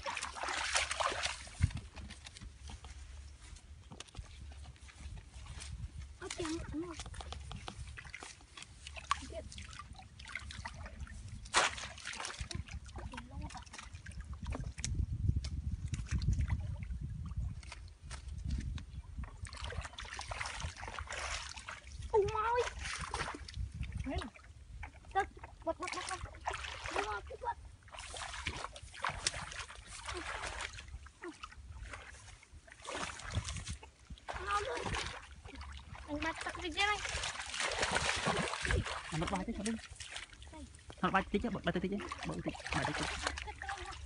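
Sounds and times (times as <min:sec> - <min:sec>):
muddy water splashing: 0:00.0 - 0:44.0.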